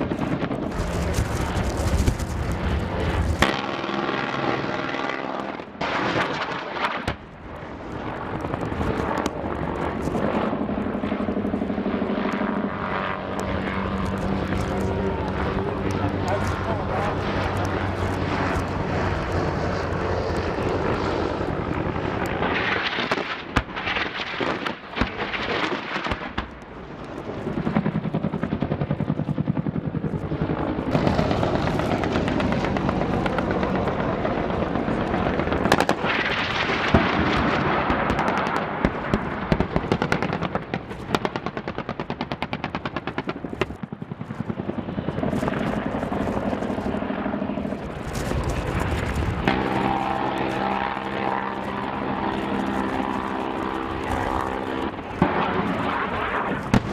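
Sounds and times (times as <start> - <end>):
helicopter engine and rotor: 0.0 - 23.8, 26.6 - 37.0, 37.8 - 56.9.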